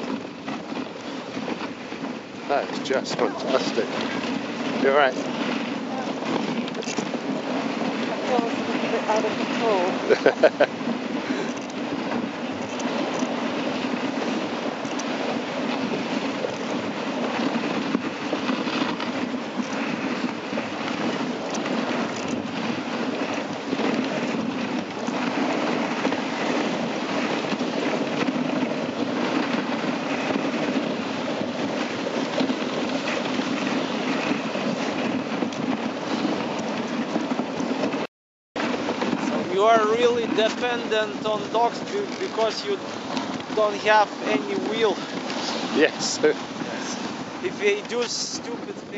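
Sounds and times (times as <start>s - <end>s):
sled knocks and rattles: 0.0s - 38.0s, 38.6s - 48.9s
sled runners scraping snow: 0.0s - 48.9s.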